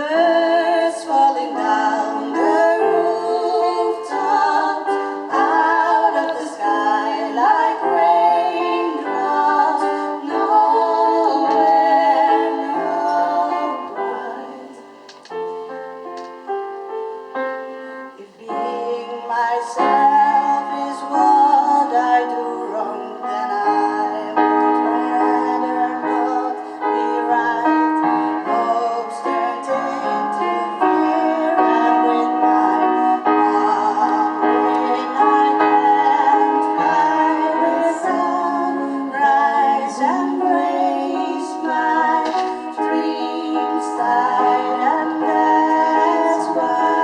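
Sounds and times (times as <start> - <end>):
woman singing with vibrato: 0.0 - 15.2, 18.0 - 47.0
musical accompaniment: 0.0 - 47.0
piano notes: 0.0 - 47.0.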